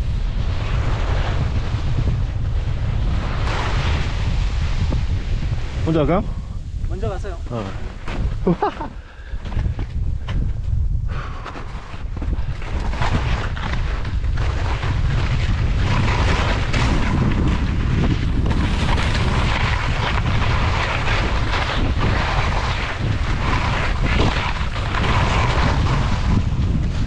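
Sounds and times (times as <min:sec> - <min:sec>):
skis scraping over snow: 0:00.0 - 0:10.5, 0:11.1 - 0:27.0
wind buffeting microphone: 0:00.0 - 0:27.0.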